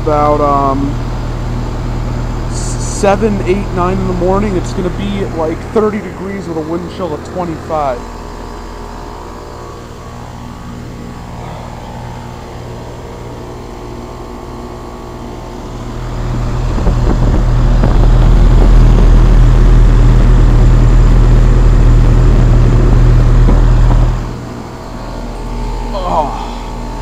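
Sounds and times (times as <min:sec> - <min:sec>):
heat pump humming: 0:00.0 - 0:27.0
loud low rumble: 0:00.0 - 0:27.0.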